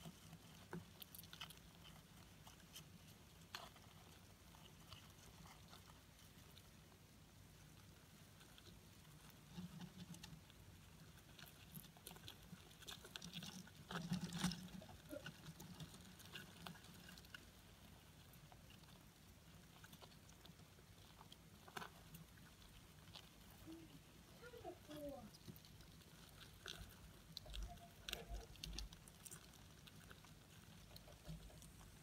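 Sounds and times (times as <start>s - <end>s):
cockroaches ticking and rustling: 0.0s - 32.0s.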